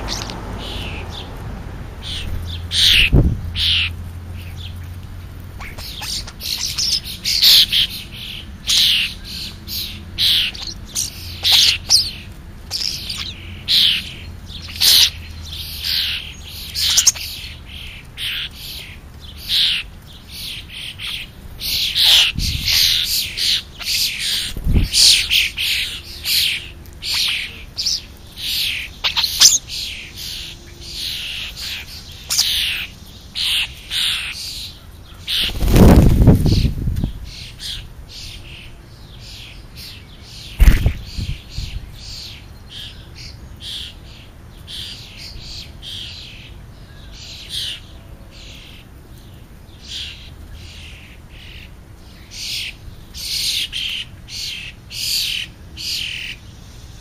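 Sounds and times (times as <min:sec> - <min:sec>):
starlings calling: 0:00.0 - 0:57.0.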